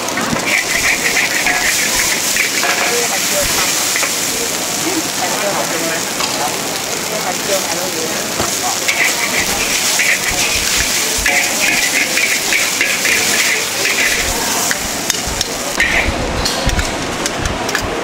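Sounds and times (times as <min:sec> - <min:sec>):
steady dense hissing: 0:00.0 - 0:18.0.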